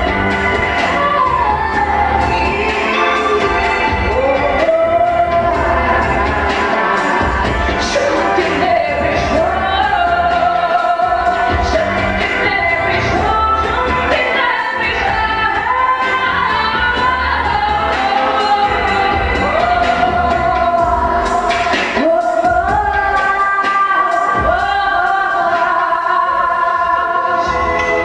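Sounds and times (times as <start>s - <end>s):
instrumental band backing: 0.0s - 28.0s
woman singing slow song: 0.0s - 28.0s.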